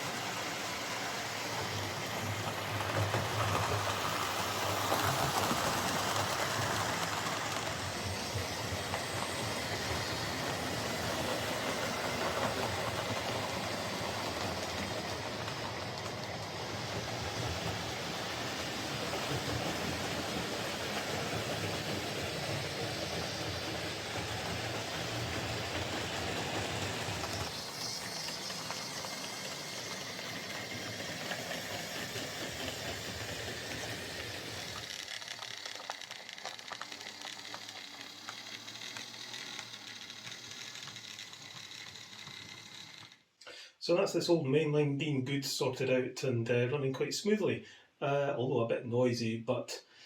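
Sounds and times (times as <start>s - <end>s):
model train motor and gears whirring: 0.0s - 43.4s.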